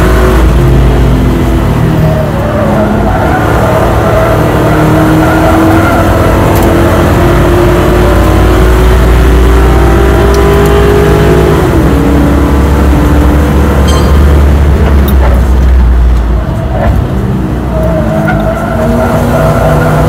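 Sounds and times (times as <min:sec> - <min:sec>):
race car engine under throttle: 0:00.0 - 0:20.0
road and wind rumble: 0:00.0 - 0:20.0.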